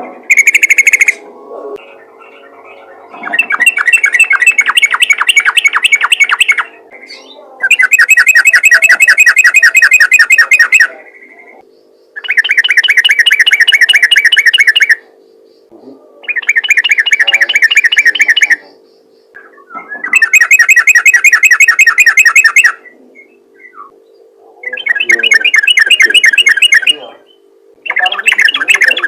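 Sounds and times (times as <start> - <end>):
faint steady hum: 0.0 - 29.0
bird chattering call: 0.2 - 1.2, 3.1 - 29.0.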